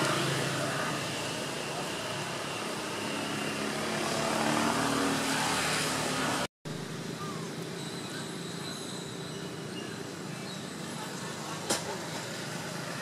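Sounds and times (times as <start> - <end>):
motor vehicle hum: 0.0 - 13.0.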